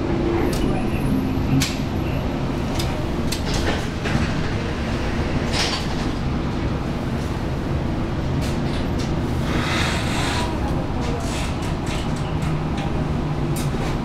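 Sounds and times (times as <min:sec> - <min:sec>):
train equipment hum: 0:00.0 - 0:14.0.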